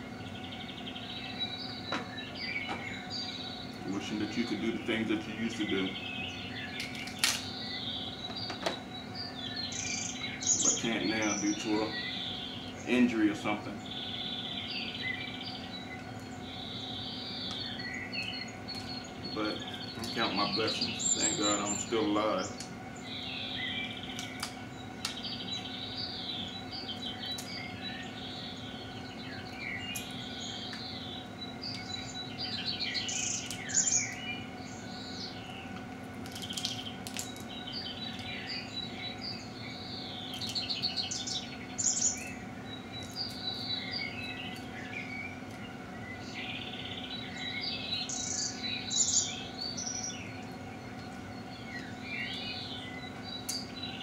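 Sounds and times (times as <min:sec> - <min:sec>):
birds chirping and singing: 0:00.0 - 0:54.0
steady low hum: 0:00.0 - 0:54.0.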